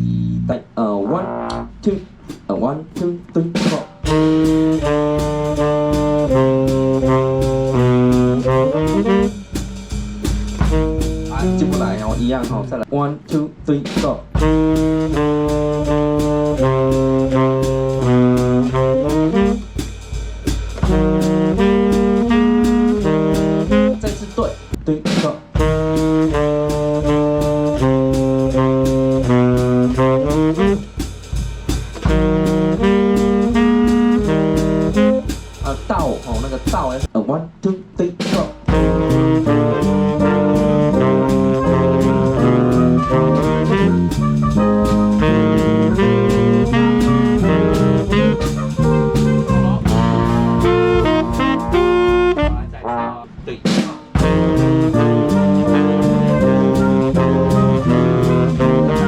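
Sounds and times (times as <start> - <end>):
saxophones and brass chords: 0.0 - 1.8, 4.0 - 12.8, 14.4 - 24.7, 25.6 - 35.8, 38.6 - 59.0
swing band horn section: 0.0 - 2.3, 3.0 - 12.8, 13.8 - 37.1, 38.2 - 59.0
drums keeping time: 0.0 - 37.1, 38.2 - 59.0.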